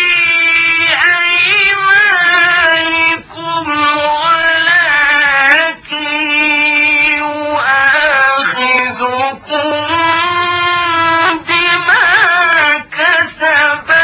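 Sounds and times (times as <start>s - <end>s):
man chanting recitation: 0.0s - 14.0s.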